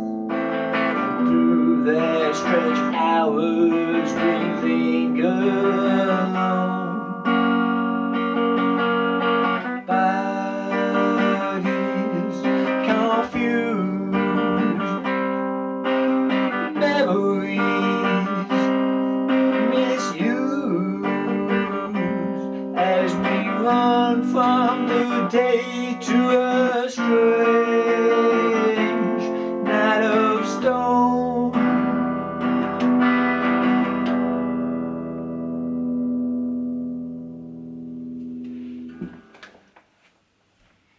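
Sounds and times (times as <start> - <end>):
instrumental guitar music: 0.0 - 39.8.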